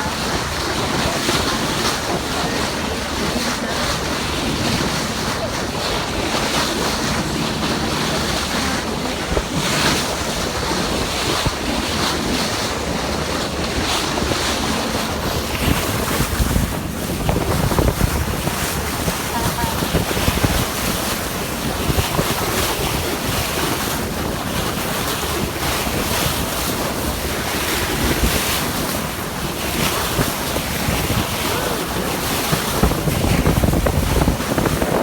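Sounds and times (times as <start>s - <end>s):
sea waves rushing: 0.0s - 35.0s
wind buffeting microphone: 0.0s - 35.0s.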